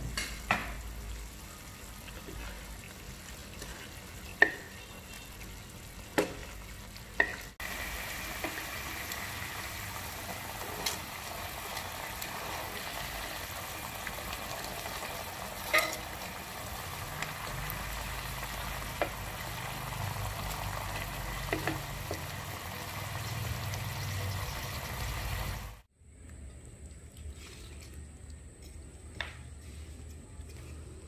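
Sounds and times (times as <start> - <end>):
sauce sizzling in a wok: 0.5 - 25.9.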